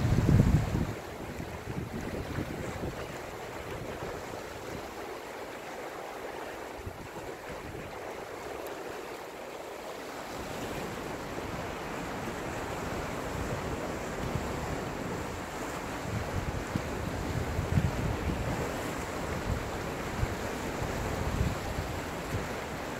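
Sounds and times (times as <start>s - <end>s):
sea surf breaking on rocks: 0.0s - 8.5s, 10.0s - 22.9s.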